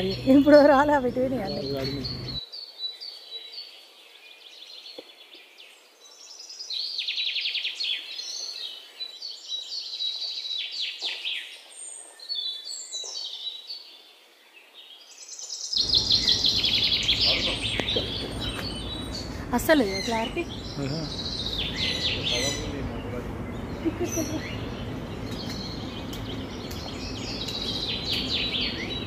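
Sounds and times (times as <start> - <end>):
many birds chirping: 0.0 - 29.0.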